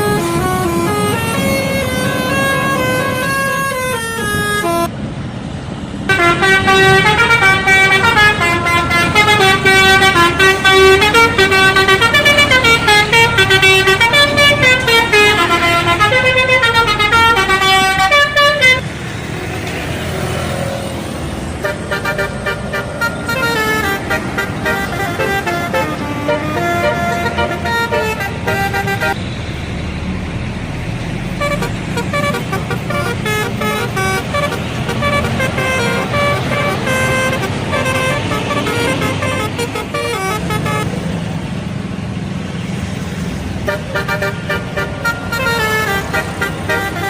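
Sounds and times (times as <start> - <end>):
musical bus air horn: 0.0 - 4.9, 6.1 - 18.9, 21.6 - 29.2, 31.3 - 40.9, 43.6 - 47.0
bus engine: 0.0 - 47.0
traffic noise: 0.0 - 47.0.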